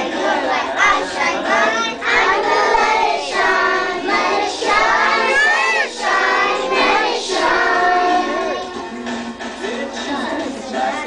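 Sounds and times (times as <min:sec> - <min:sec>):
young children singing: 0:00.0 - 0:09.0.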